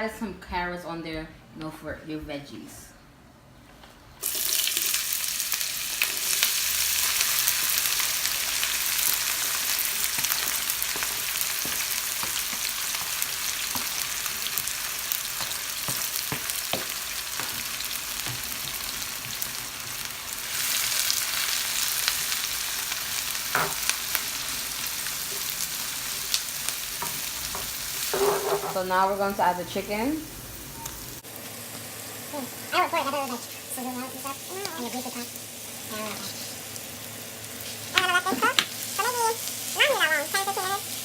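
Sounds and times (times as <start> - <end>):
vegetables sizzling in oil: 4.2 - 41.0.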